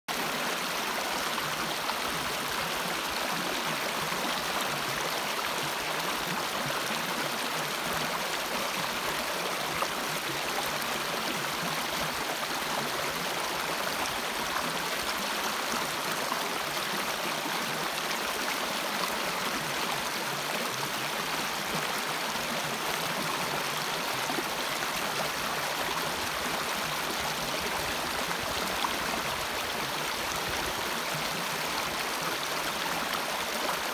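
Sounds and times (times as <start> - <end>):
stream babbling over stones: 0.1 - 33.9.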